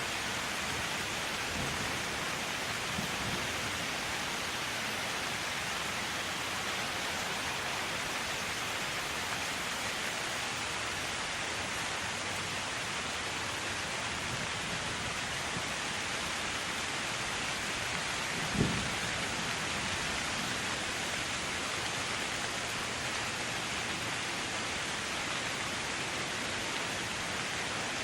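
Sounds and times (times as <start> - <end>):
rain falling on leaves: 0.0 - 28.0.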